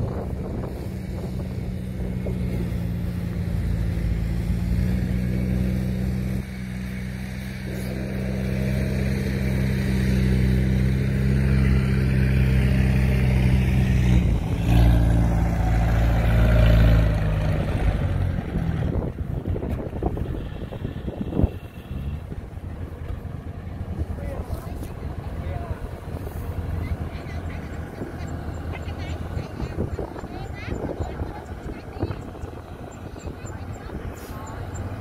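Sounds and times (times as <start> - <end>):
combine harvester diesel engine: 0.0 - 35.0.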